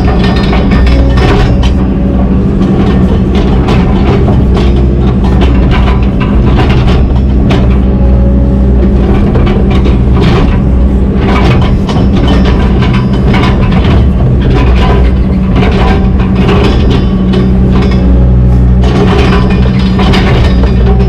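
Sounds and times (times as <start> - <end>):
diesel engine running: 0.0 - 21.0
knocks and clanks of tracks: 0.0 - 21.0.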